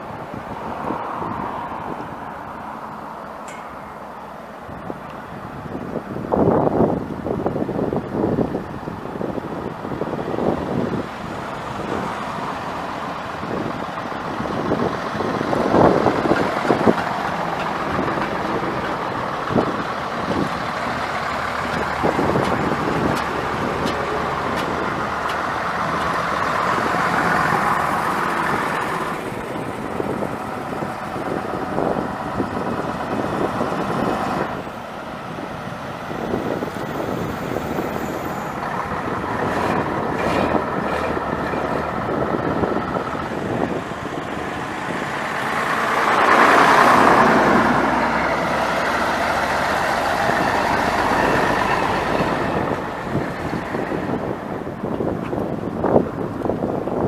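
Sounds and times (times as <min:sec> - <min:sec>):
bus engines passing: 0:00.0 - 0:57.0.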